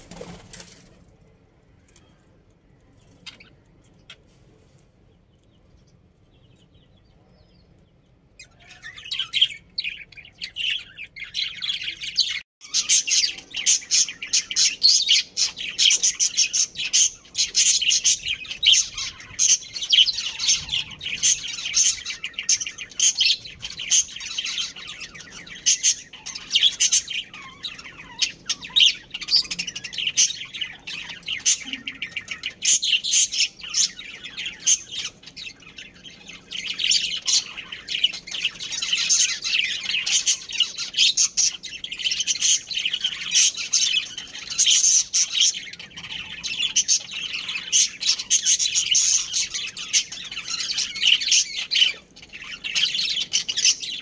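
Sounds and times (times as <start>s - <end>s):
budgerigars chirping: 8.4s - 54.0s.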